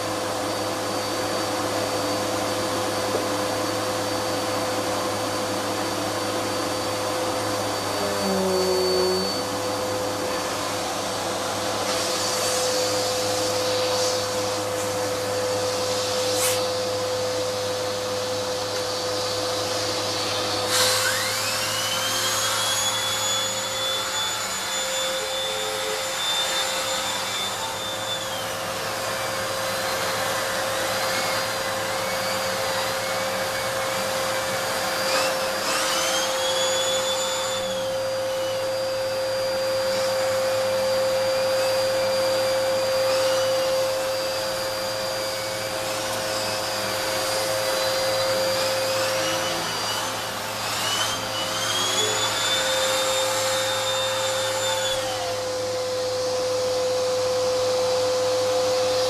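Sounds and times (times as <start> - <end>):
vacuum cleaner whining on carpet: 0.0 - 59.0.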